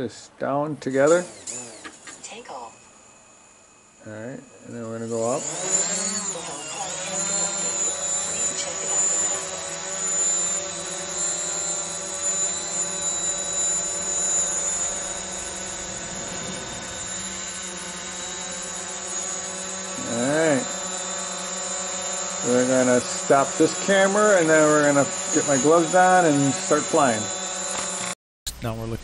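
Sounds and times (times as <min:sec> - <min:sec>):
drone propellers whining: 0:00.9 - 0:28.2.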